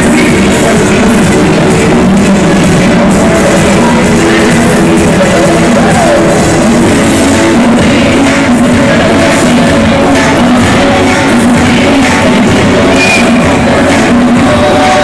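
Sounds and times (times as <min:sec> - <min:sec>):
loud music: 0:00.0 - 0:15.0.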